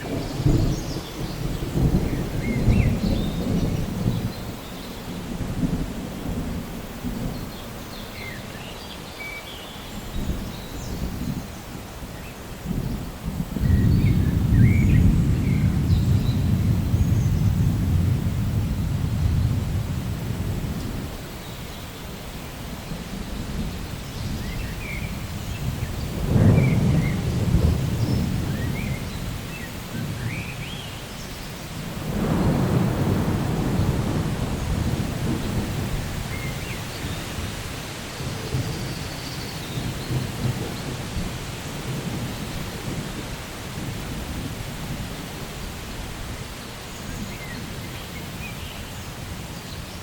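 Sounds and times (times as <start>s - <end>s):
thunder rumbling: 0.0s - 8.4s, 12.6s - 21.7s, 22.4s - 48.5s
steady rain: 0.0s - 50.0s.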